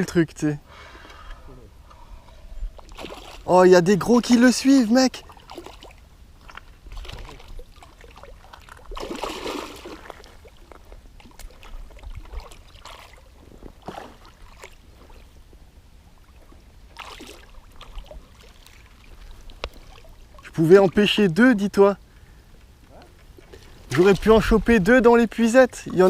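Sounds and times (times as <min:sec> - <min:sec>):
river water splashing: 0:02.8 - 0:22.1, 0:23.2 - 0:26.0.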